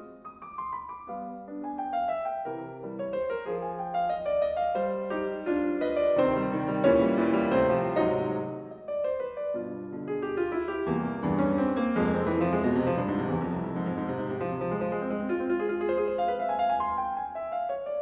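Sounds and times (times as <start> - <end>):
solo piano classical passage: 0.0 - 18.0.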